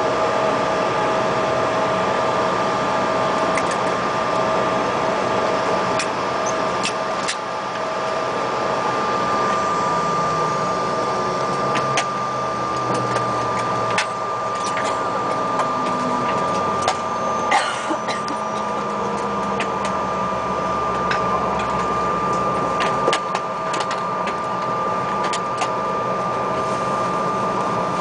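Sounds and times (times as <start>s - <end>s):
jet engine hum and whine: 0.0s - 28.0s.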